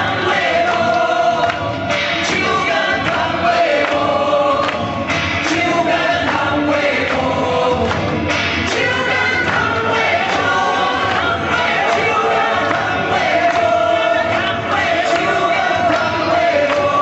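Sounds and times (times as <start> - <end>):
live band playing pop: 0.0 - 17.0
people singing together: 0.0 - 17.0.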